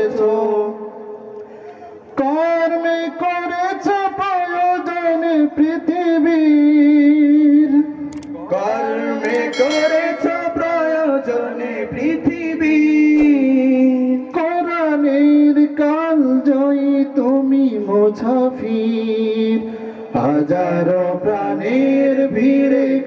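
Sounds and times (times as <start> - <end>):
man singing into a microphone: 0.0 - 1.2, 2.1 - 23.0.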